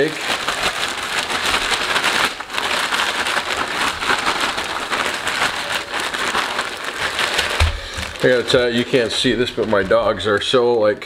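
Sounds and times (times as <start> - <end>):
plastic bag shaken and crinkling: 0.0 - 10.9.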